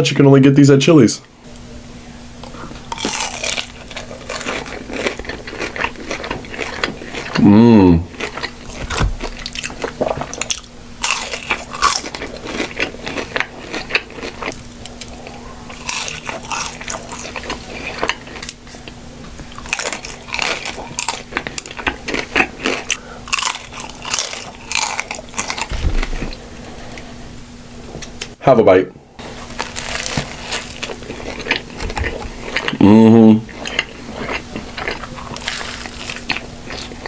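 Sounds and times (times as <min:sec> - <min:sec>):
person chewing crunchy food: 0:02.4 - 0:27.1, 0:29.2 - 0:37.0.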